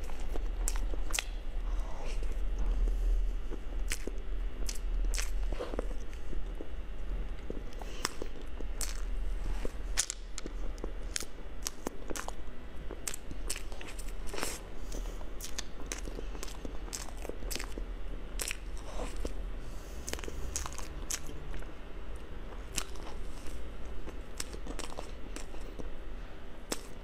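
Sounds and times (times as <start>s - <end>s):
close-miked chewing and mouth smacks: 0.0s - 2.7s, 3.5s - 19.4s, 20.0s - 26.0s, 26.6s - 27.0s
steady low hum: 0.0s - 27.0s.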